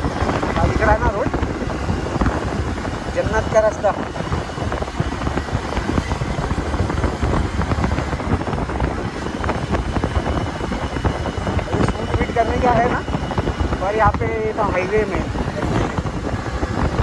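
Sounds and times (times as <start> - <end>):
motorcycle engine running: 0.0 - 17.0
wind rumbling on microphone: 0.0 - 17.0.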